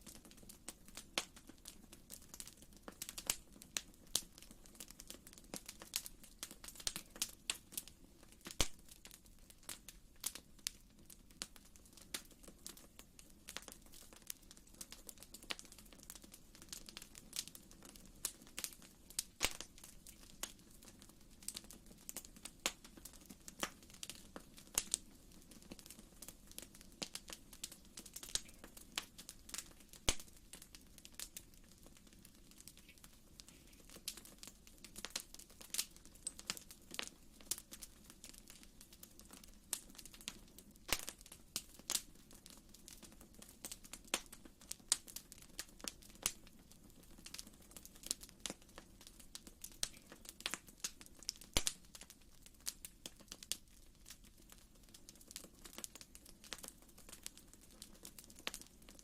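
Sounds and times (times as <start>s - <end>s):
fire popping and snapping: 0.0s - 59.0s.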